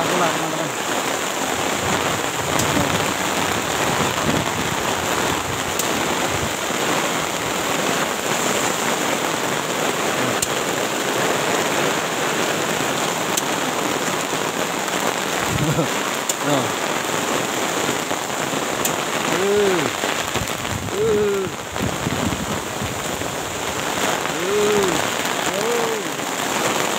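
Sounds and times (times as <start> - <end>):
gusting wind: 0.0 - 16.2, 17.0 - 26.9
heavy rain pouring: 0.0 - 26.9.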